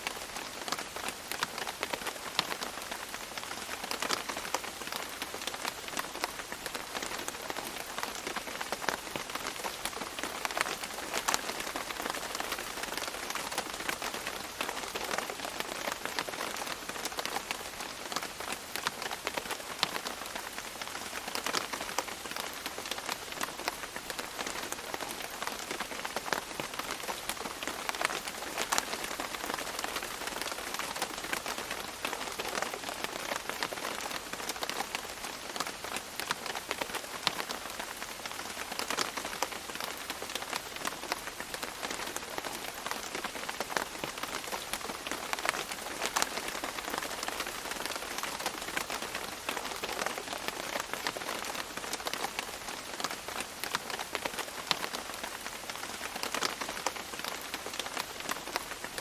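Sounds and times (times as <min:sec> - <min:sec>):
rain dripping on leaves: 0:00.0 - 0:59.0.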